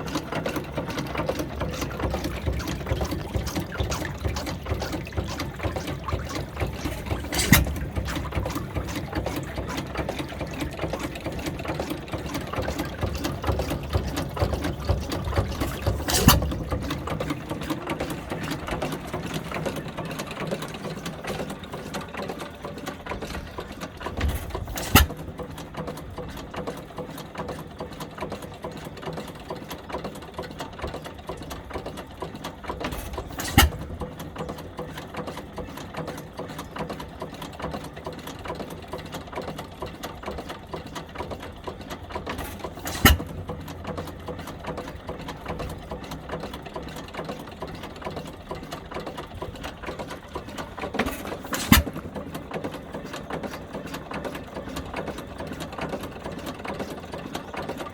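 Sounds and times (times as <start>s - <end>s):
stationary engine clattering: 0.0s - 57.9s.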